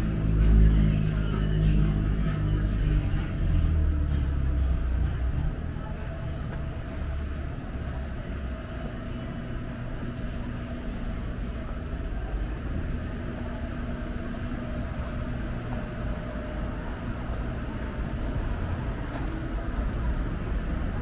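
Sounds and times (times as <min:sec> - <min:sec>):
cars passing: 0:00.0 - 0:21.0
engine hum: 0:00.0 - 0:21.0.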